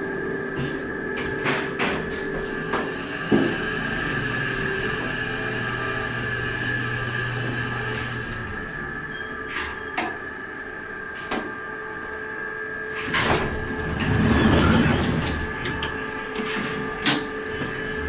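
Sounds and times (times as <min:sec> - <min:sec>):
elevator rushing rumble: 0:00.0 - 0:10.9, 0:12.8 - 0:18.0
elevator mechanical hum: 0:00.0 - 0:18.0.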